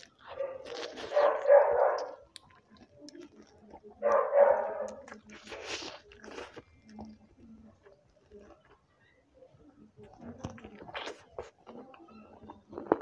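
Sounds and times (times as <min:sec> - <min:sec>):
man chewing close up: 0:00.0 - 0:09.2, 0:10.0 - 0:13.0.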